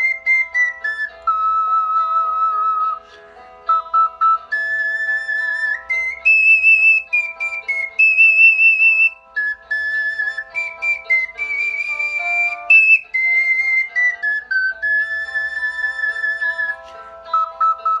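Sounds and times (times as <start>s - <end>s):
lower accompaniment notes: 0.0s - 18.0s
ocarina melody: 0.0s - 18.0s.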